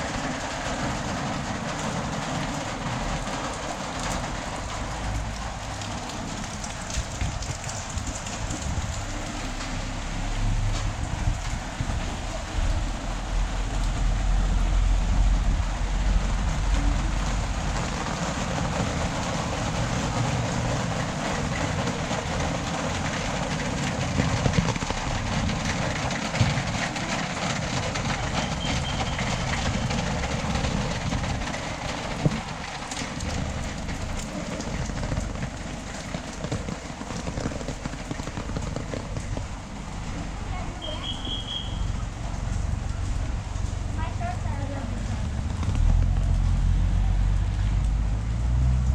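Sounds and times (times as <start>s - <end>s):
steady rain falling: 0.0s - 48.9s
traffic noise: 0.0s - 48.9s
vehicle rumbling past: 0.0s - 48.9s.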